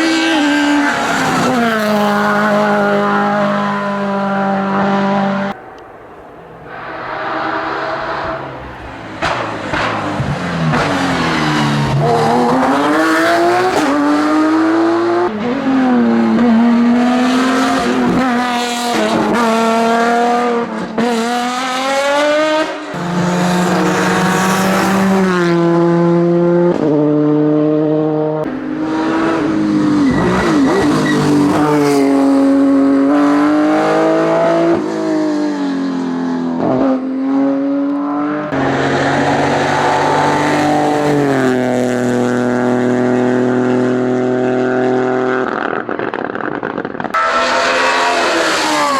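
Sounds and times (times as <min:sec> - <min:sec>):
race car engines at full throttle: 0:00.0 - 0:48.9.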